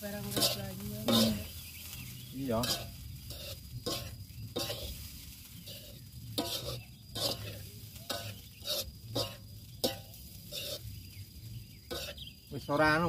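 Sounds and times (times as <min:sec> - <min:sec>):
metal spatula scraping a wok: 0:00.0 - 0:12.4.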